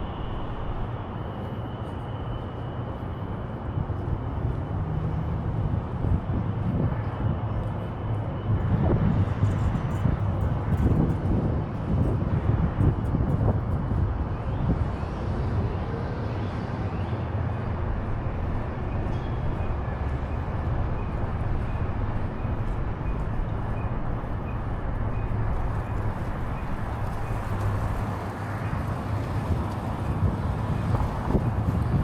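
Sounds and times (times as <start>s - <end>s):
city street traffic: 0.0s - 32.0s.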